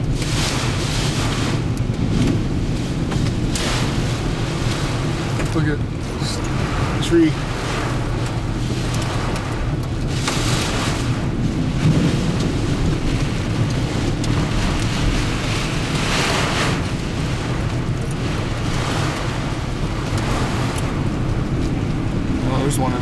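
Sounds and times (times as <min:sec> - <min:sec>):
heavy rain lashing a car: 0:00.0 - 0:23.0
low rumble of car: 0:00.0 - 0:23.0
wind: 0:00.0 - 0:23.0.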